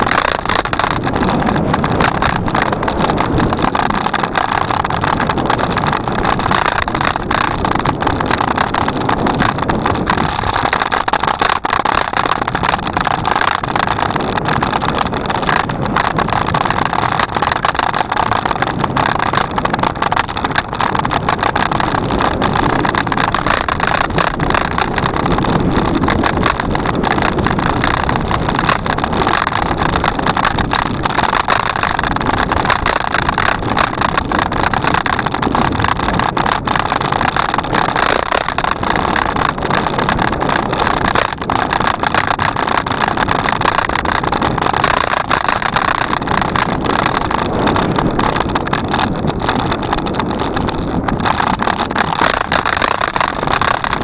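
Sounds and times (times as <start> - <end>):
bicycle rattling and clicking: 0.0 - 54.0
wind on microphone: 0.0 - 54.0.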